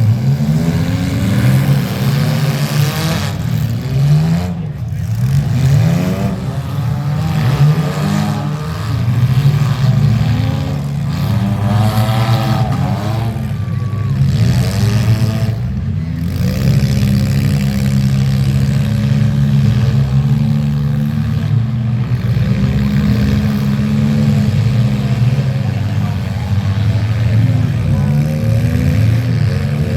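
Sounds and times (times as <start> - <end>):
car engines revving: 0.0 - 29.9.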